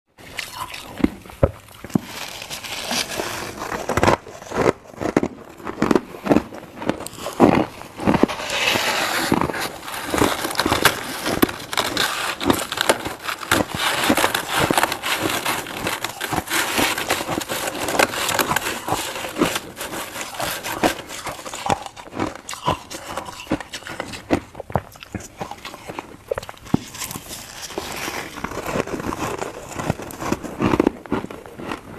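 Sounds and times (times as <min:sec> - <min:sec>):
frost being chewed crunching: 0:00.2 - 0:31.9.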